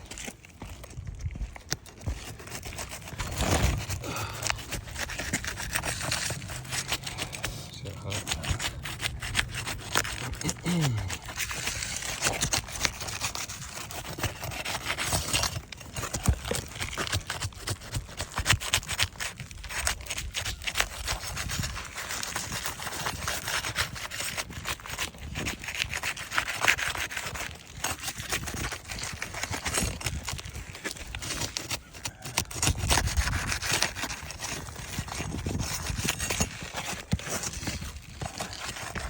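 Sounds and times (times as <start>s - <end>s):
metal pry tool scraping shingles: 0.0s - 39.0s.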